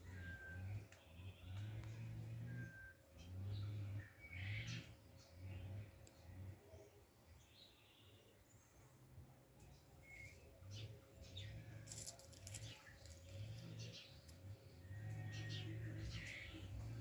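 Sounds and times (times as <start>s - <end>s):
faint bird chirps: 0.0s - 9.0s, 9.6s - 17.0s.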